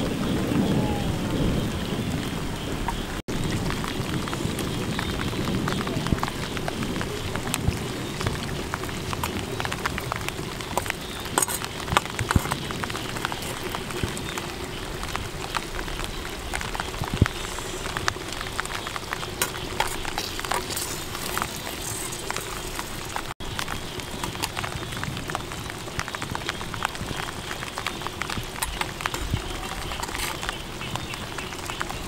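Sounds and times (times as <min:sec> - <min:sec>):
pot boiling over fire: 0:00.0 - 0:32.0.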